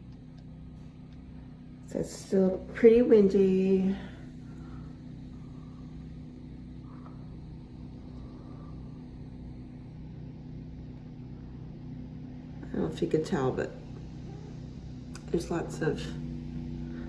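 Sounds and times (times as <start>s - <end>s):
generator engine humming: 0.0s - 17.0s.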